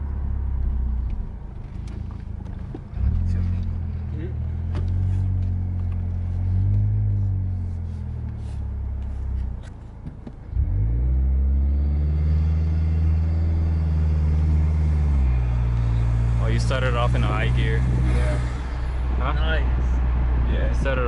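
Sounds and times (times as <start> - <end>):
car engine driving: 0.0 - 21.0.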